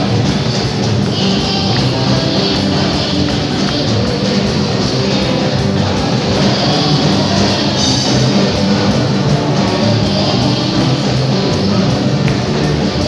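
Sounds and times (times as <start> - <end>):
live band with guitar and drums: 0.0 - 13.0
people singing into microphones: 0.0 - 13.0.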